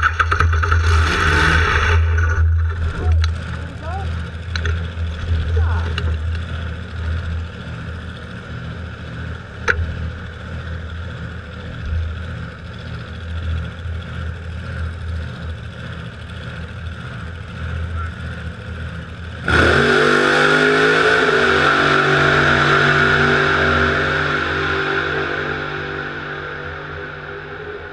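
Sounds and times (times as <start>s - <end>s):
car engine rumble: 0.0s - 27.9s.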